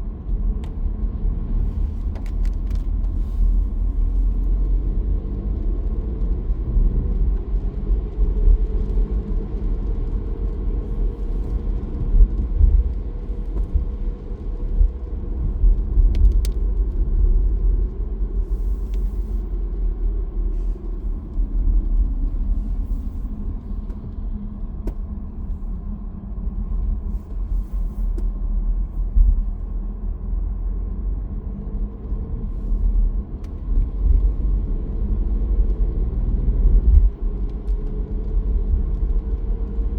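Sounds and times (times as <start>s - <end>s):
car driving low rumble: 0.0s - 39.9s.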